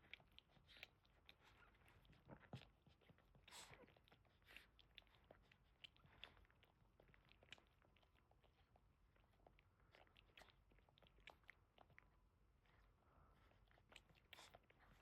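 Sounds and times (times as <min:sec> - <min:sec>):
dogs licking and smacking: 0:00.0 - 0:15.0.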